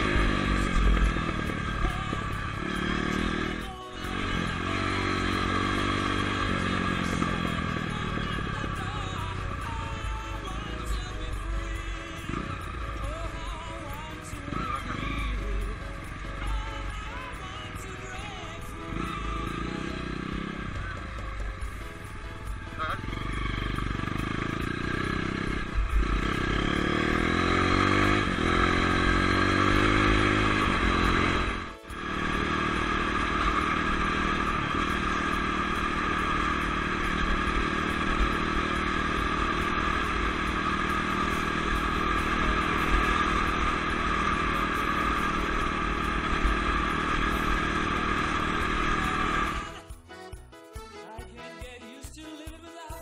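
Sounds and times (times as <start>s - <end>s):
dirt bike engine revving: 0.0s - 49.9s
quiet music: 0.0s - 53.0s.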